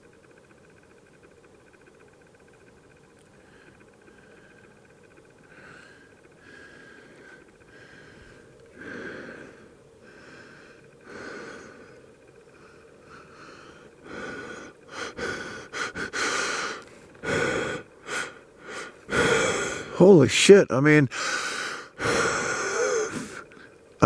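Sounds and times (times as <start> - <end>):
man blowing forceful breaths: 3.4 - 20.0, 21.1 - 23.8.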